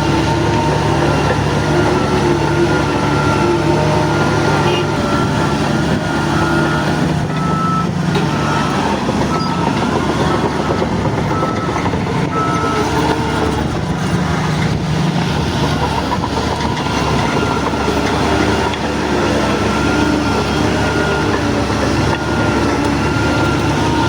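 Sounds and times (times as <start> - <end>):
bulldozer diesel engine running: 0.0 - 24.0
crawler tracks clattering: 0.0 - 24.0.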